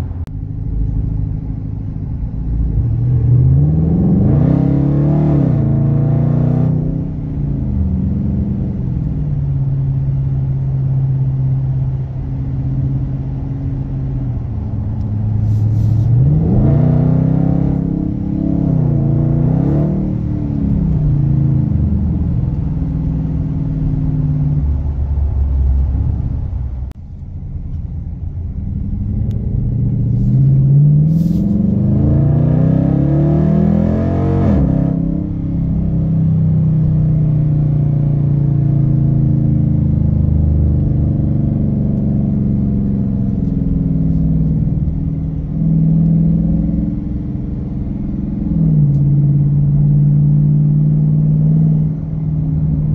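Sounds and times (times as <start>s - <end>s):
car engine cruising: 0.0s - 52.9s.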